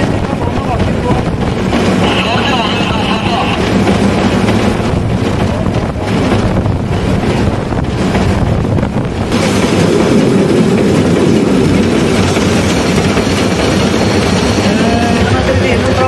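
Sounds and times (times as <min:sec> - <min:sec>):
steam locomotive rumble: 0:00.0 - 0:16.0
wheels on rails: 0:00.0 - 0:16.0.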